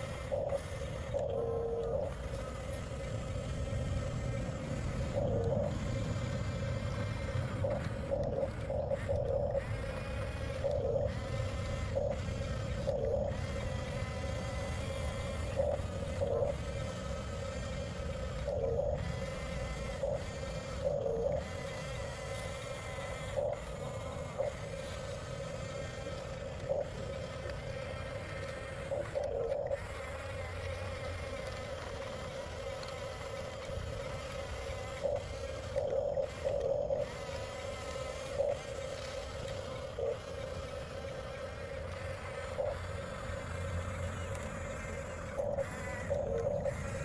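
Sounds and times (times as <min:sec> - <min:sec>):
toy bulldozer motor whine: 0:00.0 - 0:47.0.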